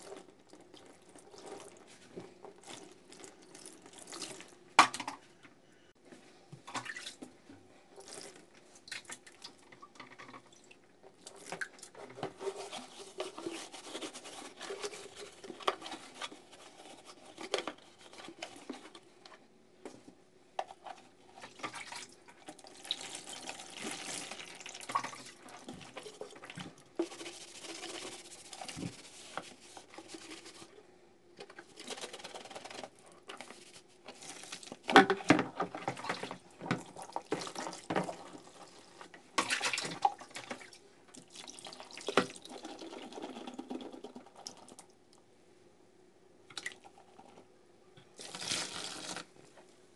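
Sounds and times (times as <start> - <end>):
water sloshing in a plastic basin: 0.0 - 5.2, 6.6 - 19.0, 20.6 - 30.7, 31.4 - 44.9.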